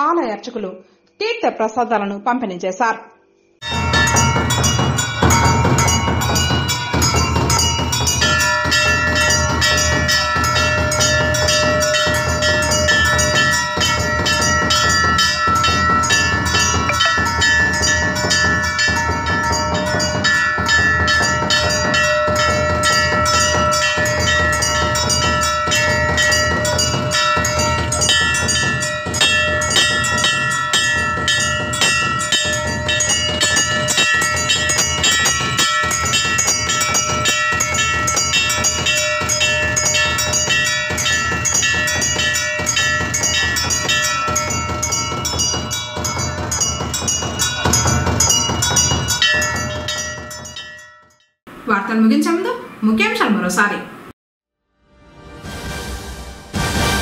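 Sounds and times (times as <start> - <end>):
bells clanging rapidly: 3.6 - 51.4
steady ringing tone: 3.6 - 51.4.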